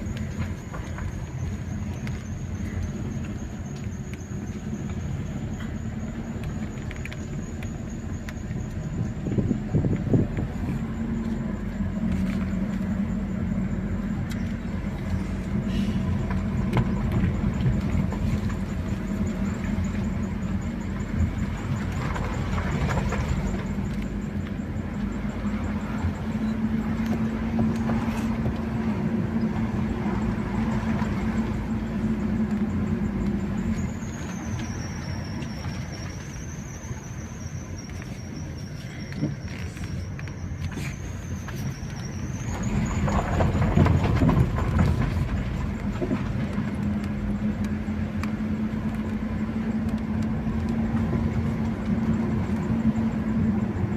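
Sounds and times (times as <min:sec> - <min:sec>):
car engine hum: 0:00.0 - 0:53.9
road noise: 0:00.0 - 0:53.9.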